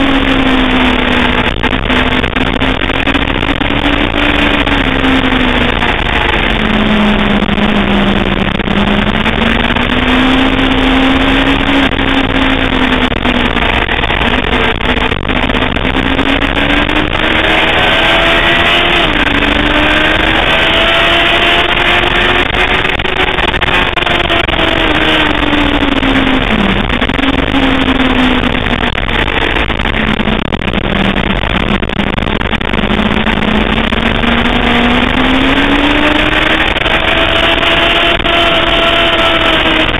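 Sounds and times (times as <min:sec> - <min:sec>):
motorcycle engine revving: 0:00.0 - 0:39.9
wind rush over microphone: 0:00.0 - 0:39.9.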